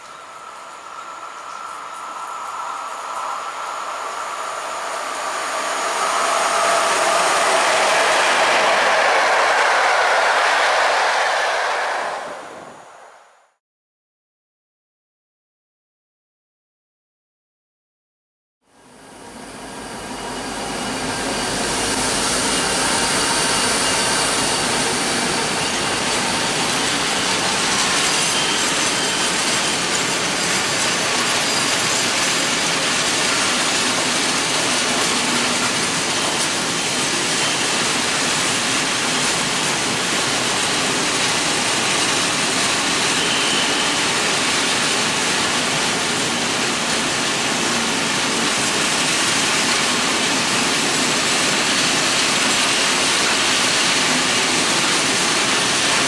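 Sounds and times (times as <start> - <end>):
freight train wheels rumbling: 0.0 - 13.2, 19.2 - 56.0.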